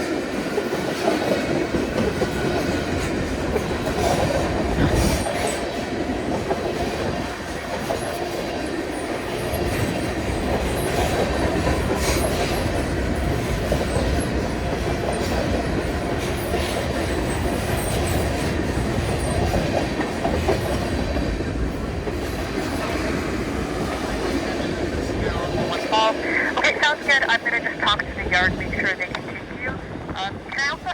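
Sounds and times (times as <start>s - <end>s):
freight train rumbling past: 0.0s - 30.9s
train wheels clacking on rail joints: 0.1s - 25.2s.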